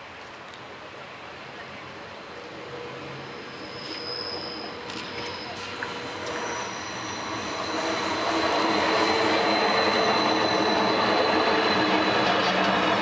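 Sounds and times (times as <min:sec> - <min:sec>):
train running on rails: 0:00.0 - 0:13.0
faint high whine: 0:01.4 - 0:13.0.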